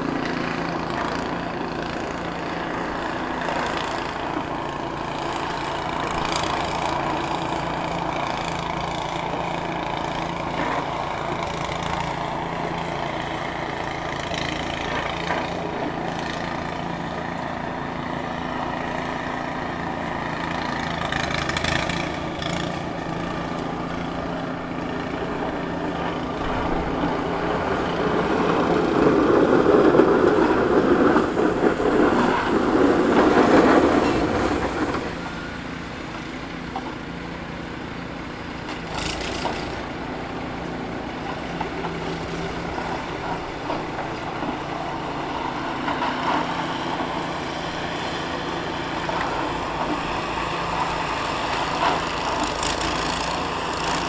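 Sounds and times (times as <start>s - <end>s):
plow blade pushing snow: 0.0s - 54.0s
truck engine running: 0.0s - 54.0s.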